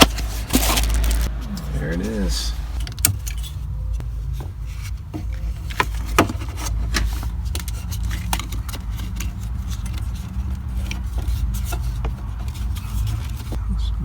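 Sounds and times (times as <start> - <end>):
hands handling plastic parts: 0.0 - 13.6
steady low rumble: 0.0 - 14.0.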